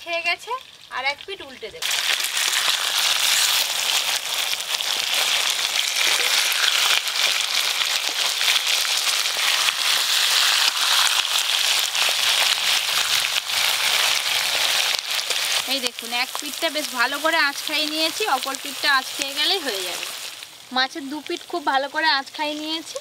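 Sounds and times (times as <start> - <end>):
fish frying in hot oil: 0.0 - 23.0.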